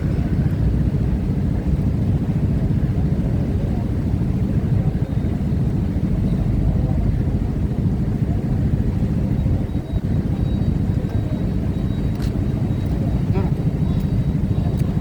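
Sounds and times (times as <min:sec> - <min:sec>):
truck and car engines rumbling: 0:00.0 - 0:15.0.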